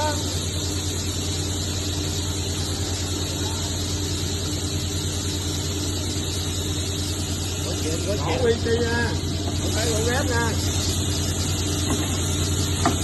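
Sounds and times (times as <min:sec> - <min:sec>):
table saw running: 0:00.0 - 0:13.0.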